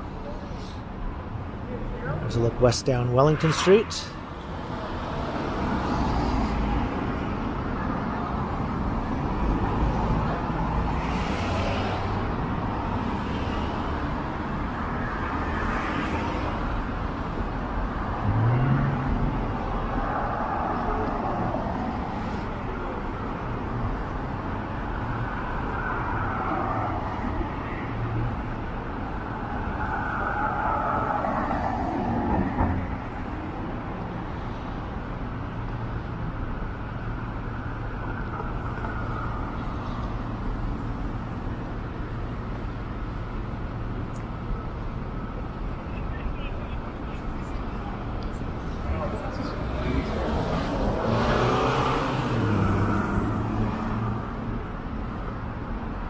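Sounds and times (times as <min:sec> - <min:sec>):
cars passing: 0:00.0 - 0:56.0
road traffic noise: 0:00.0 - 0:56.0.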